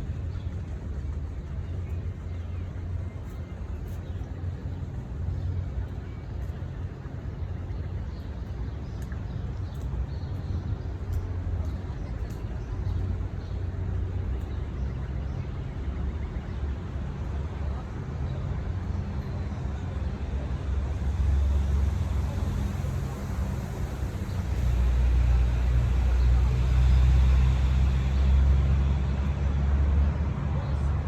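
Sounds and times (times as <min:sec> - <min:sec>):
distant traffic rumble: 0:00.0 - 0:31.0.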